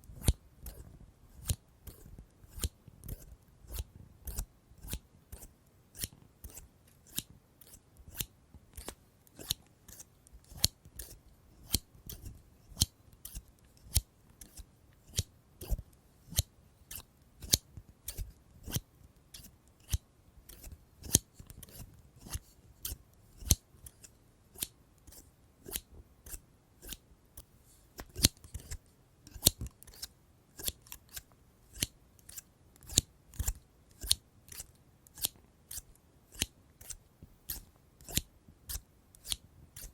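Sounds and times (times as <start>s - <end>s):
scissors snipping: 0.2s - 18.8s, 19.4s - 27.0s, 28.0s - 39.9s.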